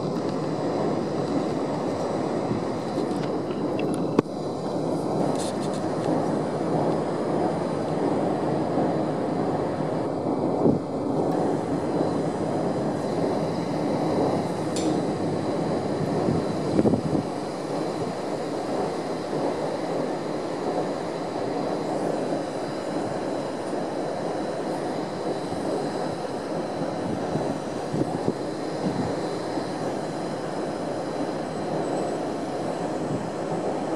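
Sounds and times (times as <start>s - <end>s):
distant train rumble on bridge: 0.0s - 33.9s.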